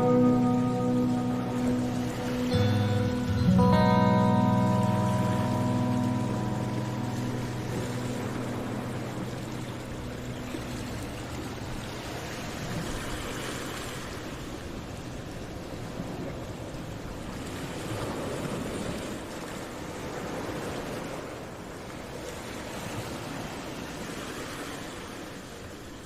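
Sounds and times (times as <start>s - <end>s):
ocean waves washing on beach: 0.0s - 26.0s.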